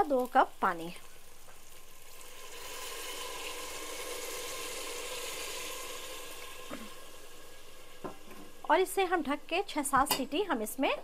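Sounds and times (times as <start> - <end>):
water hissing on hot mince: 0.0 - 10.7.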